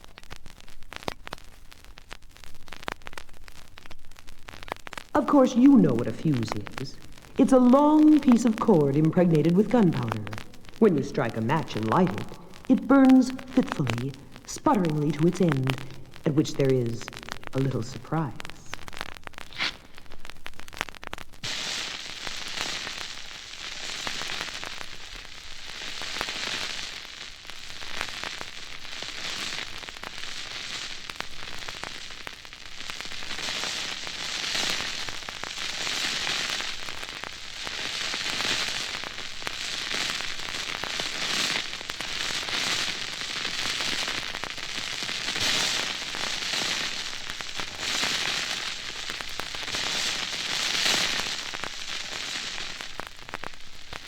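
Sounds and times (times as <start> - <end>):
fuse burning with crackling hiss: 0.0 - 54.0.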